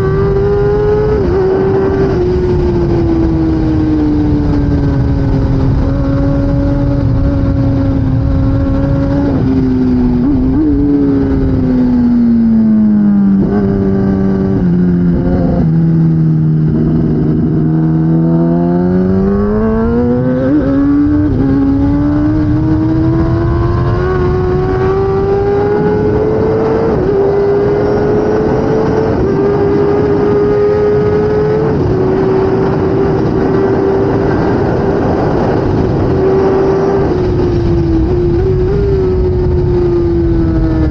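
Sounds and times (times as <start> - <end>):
motorcycle engine revving: 0.0 - 40.9
wind rush: 0.0 - 40.9.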